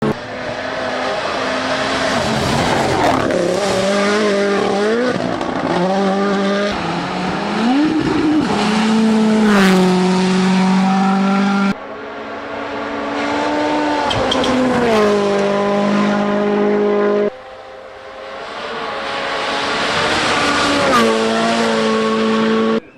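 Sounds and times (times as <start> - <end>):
rally car engine at full throttle: 0.0 - 22.9
tyre and road noise: 0.0 - 22.9.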